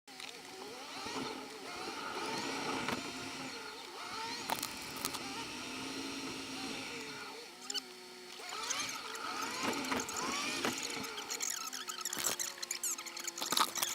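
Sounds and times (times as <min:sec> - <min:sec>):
wavering whining tones: 0:00.2 - 0:13.9.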